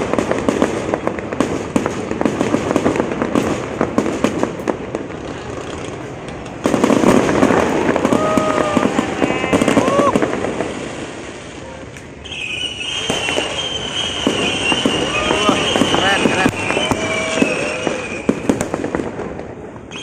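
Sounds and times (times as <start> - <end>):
fireworks crackling bangs: 0.0 - 20.0.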